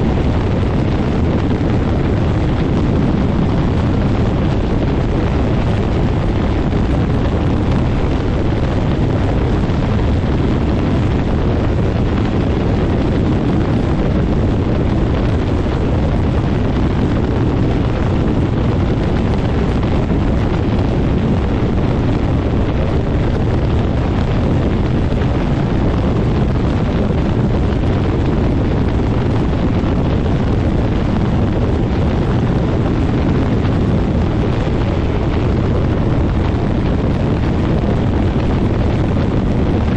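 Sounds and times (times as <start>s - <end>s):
aircraft engine and propeller: 0.0s - 39.9s
wind buffeting microphone: 0.0s - 39.9s.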